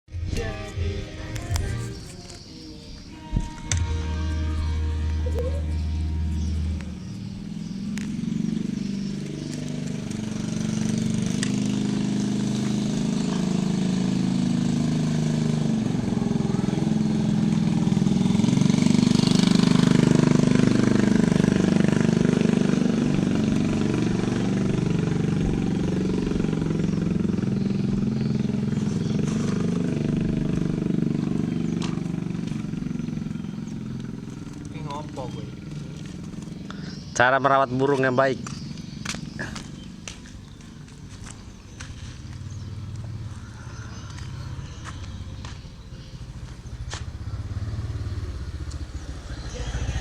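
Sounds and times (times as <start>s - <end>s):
engine humming: 0.1s - 50.0s.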